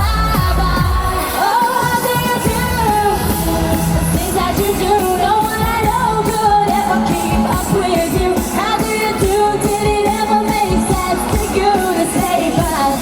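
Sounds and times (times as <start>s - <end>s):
pop dance band: 0.0s - 13.0s.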